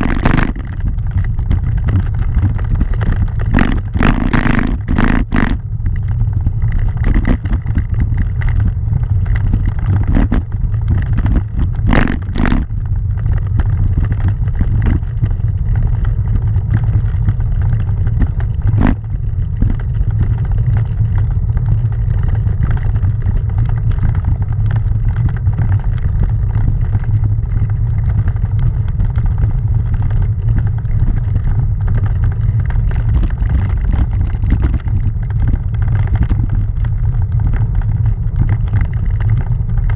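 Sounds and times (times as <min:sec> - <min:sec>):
rumble riding on cobblestones: 0:00.0 - 0:39.9.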